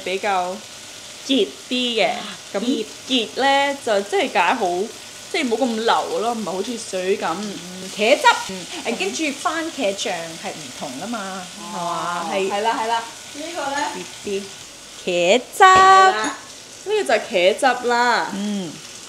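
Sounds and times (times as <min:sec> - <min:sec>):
women talking: 0:00.0 - 0:00.6, 0:01.3 - 0:14.5, 0:15.1 - 0:18.8
chicken sizzling in pan: 0:00.0 - 0:19.0.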